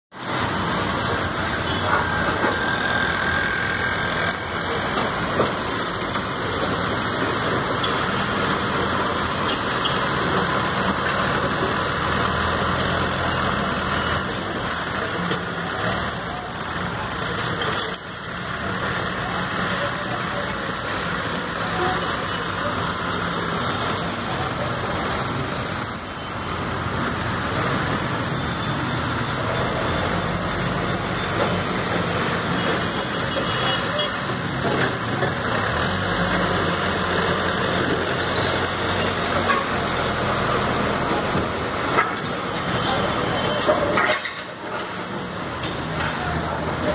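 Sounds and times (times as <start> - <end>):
road traffic passing: 0.1 - 46.9
diesel engine running: 0.2 - 46.9.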